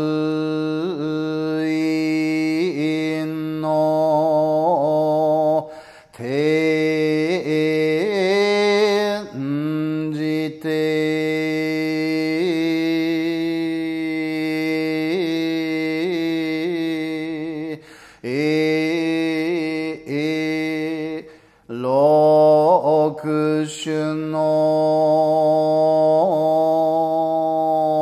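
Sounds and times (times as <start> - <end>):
man chanting solo: 0.0 - 28.0.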